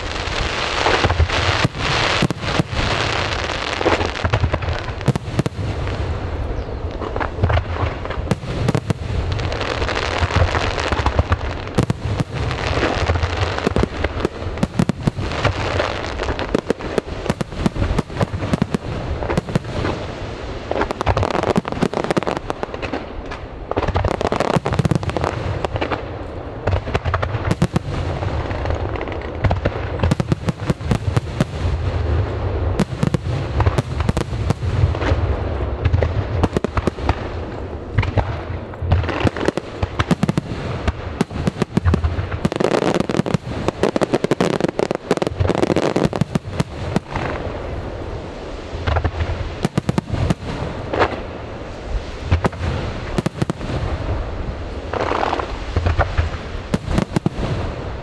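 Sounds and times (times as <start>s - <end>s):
firework bursts and booms: 0.0s - 58.0s
fireworks crackling and hissing: 0.0s - 58.0s.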